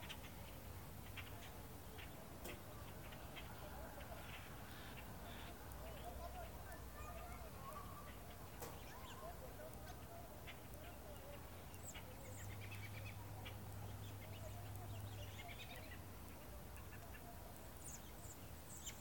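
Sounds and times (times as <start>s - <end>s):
flock of birds calling: 0.0s - 19.0s.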